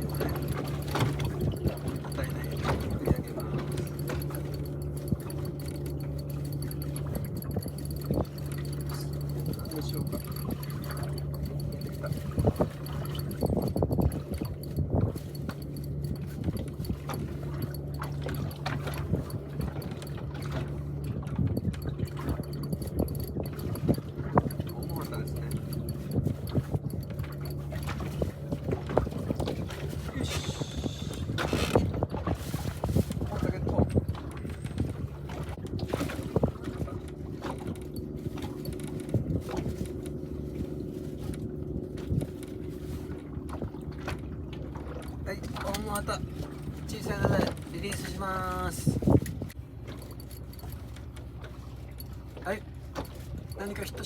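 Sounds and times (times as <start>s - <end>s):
light clicks and knocks: 0.0s - 30.1s, 32.8s - 54.0s
boat motor running: 0.0s - 54.0s
water sloshing and splashing: 0.0s - 54.0s.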